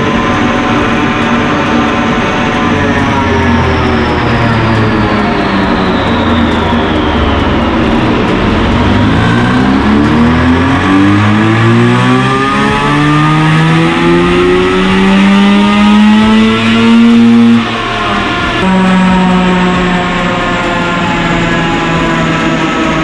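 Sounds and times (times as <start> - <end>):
rotary engine revving under load: 0.0 - 23.0.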